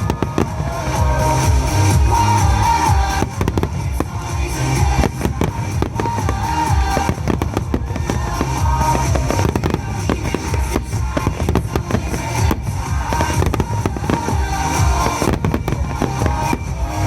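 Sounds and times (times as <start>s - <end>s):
fireworks booming and crackling: 0.0s - 17.0s.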